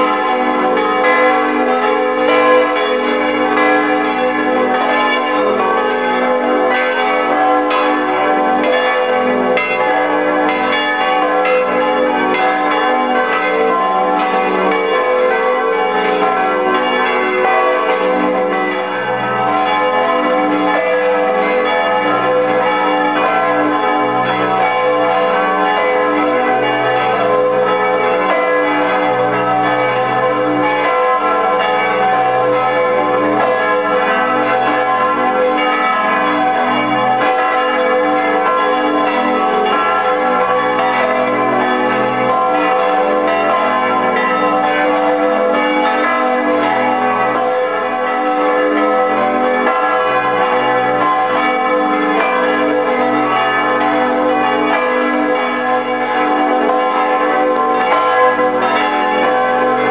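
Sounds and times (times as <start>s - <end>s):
church bells ringing in full peal: 0.0s - 59.9s.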